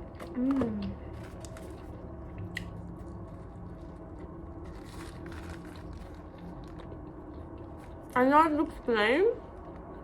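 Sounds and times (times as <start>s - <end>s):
person chewing food: 0.0s - 8.1s
low steady hum: 0.0s - 10.0s.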